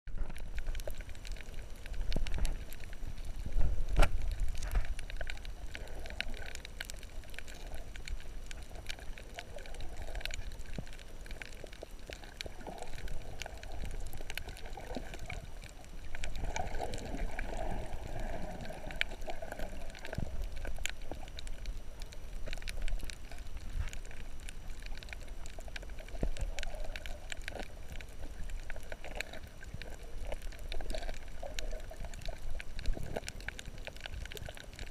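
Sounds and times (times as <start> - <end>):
sharp clicks and crackles: 0.1 - 34.9
underwater water sloshing and gurgling: 0.1 - 34.9.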